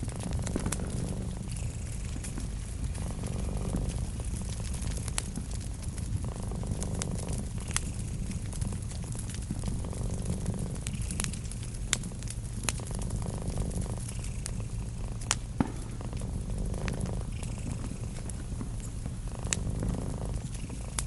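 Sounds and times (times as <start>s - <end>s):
cat purring: 0.0s - 21.0s
wood fire crackling and popping: 0.0s - 21.0s.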